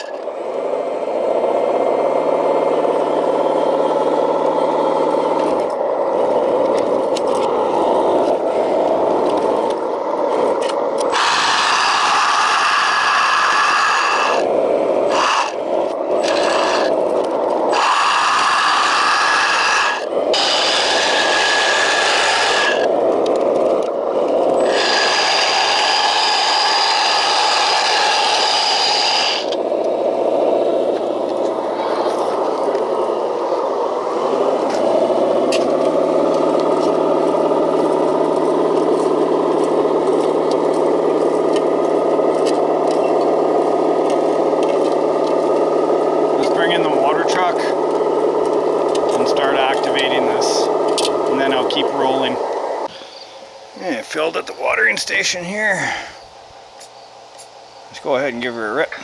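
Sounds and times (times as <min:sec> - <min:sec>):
electric motor whining: 0:00.0 - 0:59.0.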